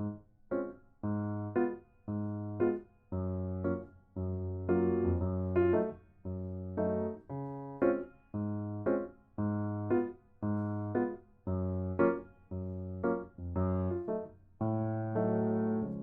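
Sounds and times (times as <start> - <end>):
gentle piano tune: 0.0 - 16.0.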